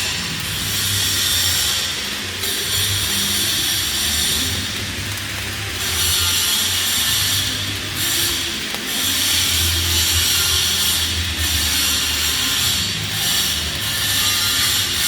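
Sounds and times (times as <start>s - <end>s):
welding arc crackling: 0.0s - 15.0s.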